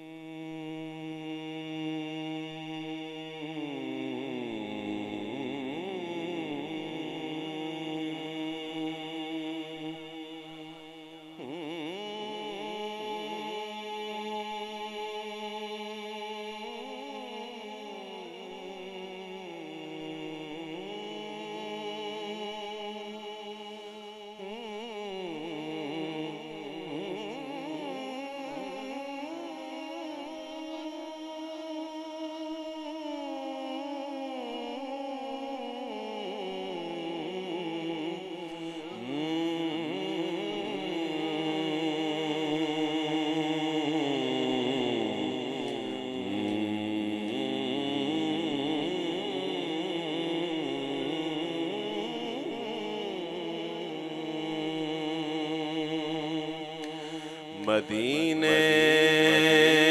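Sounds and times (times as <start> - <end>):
man singing into a microphone: 0.0 - 59.9.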